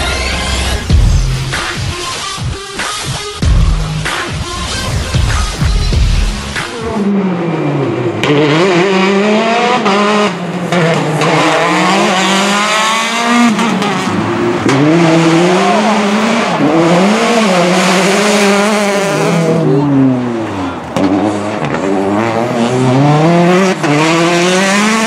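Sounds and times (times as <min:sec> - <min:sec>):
rally car engines at full throttle: 0:03.5 - 0:25.0.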